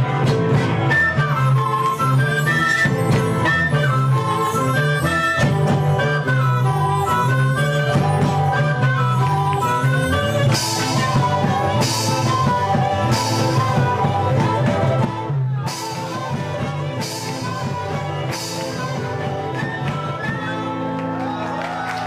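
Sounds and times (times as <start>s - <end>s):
guitar-led band music: 0.0s - 22.0s.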